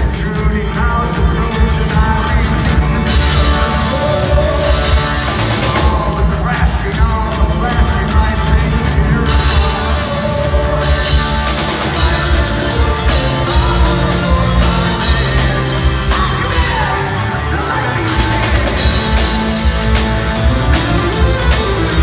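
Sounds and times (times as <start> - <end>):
lead vocal singing: 0.0 - 22.0
rock band playing live: 0.0 - 22.0.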